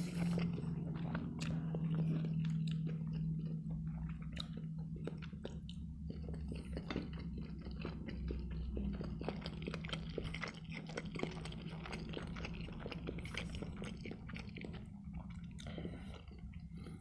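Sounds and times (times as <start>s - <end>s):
low steady hum: 0.0s - 17.0s
wet chewing clicks and smacks: 0.1s - 17.0s.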